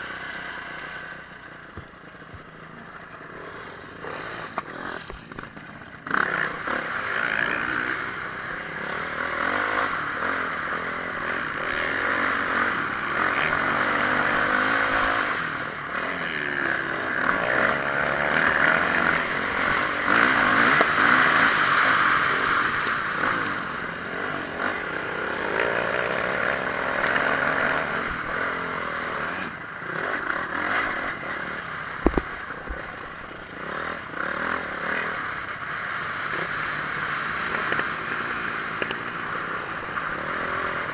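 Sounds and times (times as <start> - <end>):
motocross engine revving: 0.0 - 40.9.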